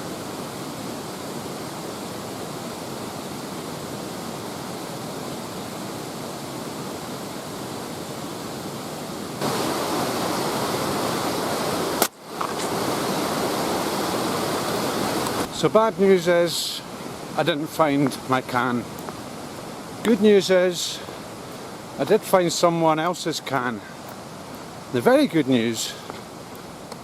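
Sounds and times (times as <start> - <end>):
mountain river rushing: 0.0 - 27.0.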